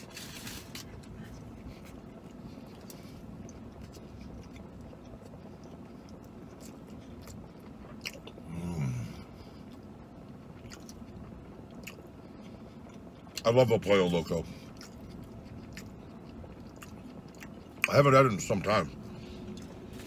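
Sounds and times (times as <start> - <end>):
man chewing food: 0.0 - 13.4, 14.4 - 18.1, 18.9 - 20.0
low hummed mm: 0.0 - 20.0.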